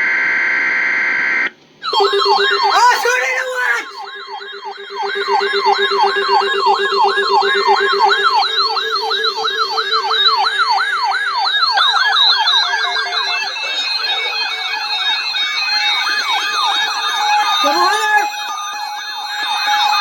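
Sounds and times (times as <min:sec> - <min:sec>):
alert sirens sweeping: 0:01.8 - 0:20.0
pulsed beeping tone: 0:01.8 - 0:20.0.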